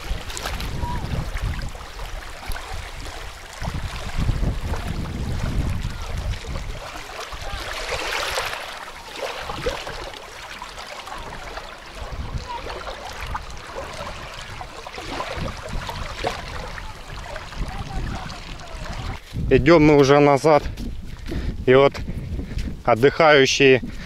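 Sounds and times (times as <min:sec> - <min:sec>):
small waves lapping on sand: 0:00.0 - 0:19.3
wind rumbling on microphone: 0:00.0 - 0:24.0.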